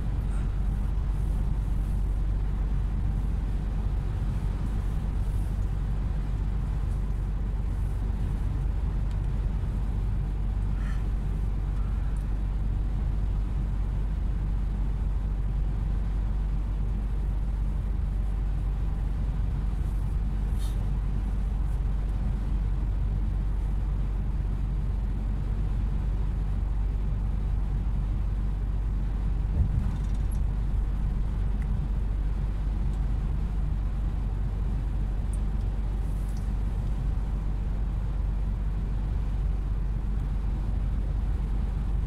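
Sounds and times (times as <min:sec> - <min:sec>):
vehicle cruising on highway: 0:00.0 - 0:42.0.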